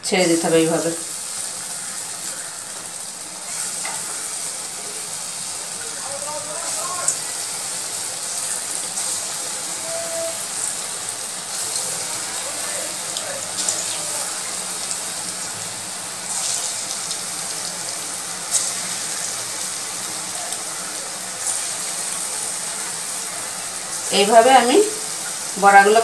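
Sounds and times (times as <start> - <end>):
batter deep-frying in oil: 0.0 - 26.0
sharp oil crackles: 0.4 - 26.0.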